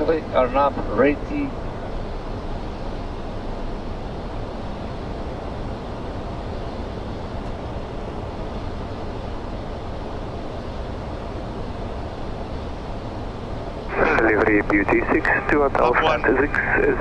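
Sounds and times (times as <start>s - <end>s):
airflow and engine rush: 0.0s - 17.0s.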